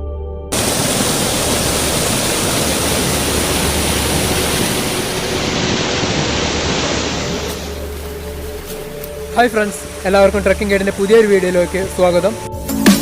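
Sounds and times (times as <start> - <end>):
waterfall rushing: 0.5 - 13.0.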